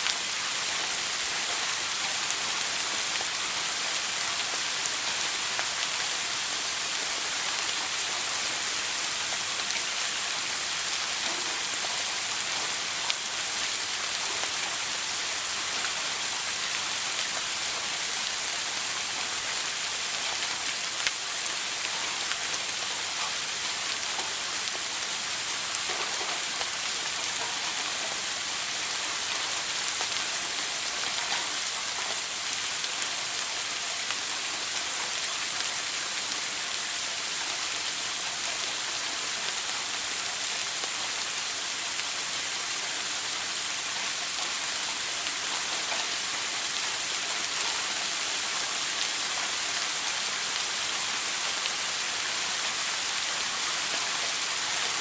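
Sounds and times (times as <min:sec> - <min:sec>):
shower running: 0:00.0 - 0:55.0.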